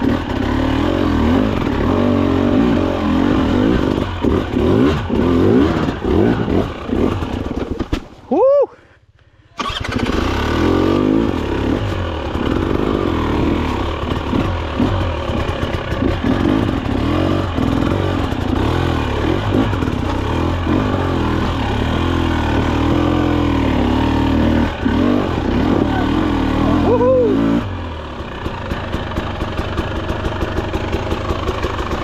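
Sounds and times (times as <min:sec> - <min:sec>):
dirt bike engine revving: 0:00.0 - 0:07.8, 0:09.6 - 0:32.0.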